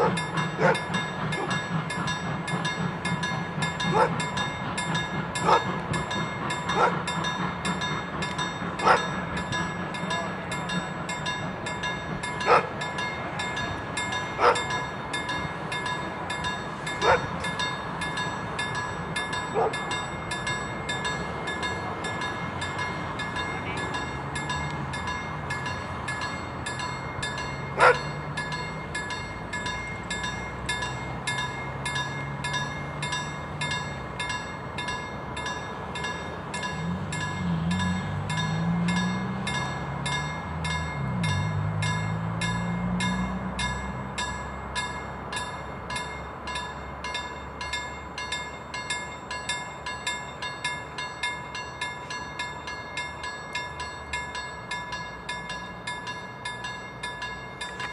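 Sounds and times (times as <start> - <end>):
steady rhythmic ringing: 0.0 - 57.9.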